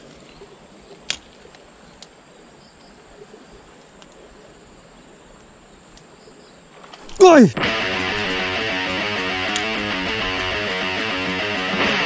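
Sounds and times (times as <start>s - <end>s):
faint outdoor hiss: 0.0s - 11.4s.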